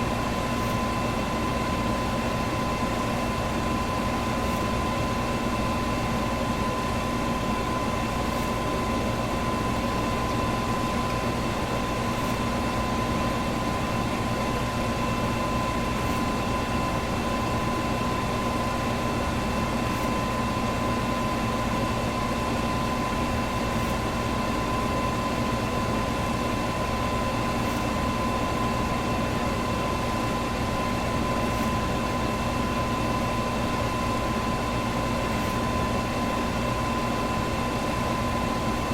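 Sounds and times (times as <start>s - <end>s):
electric fan running: 0.0s - 38.9s.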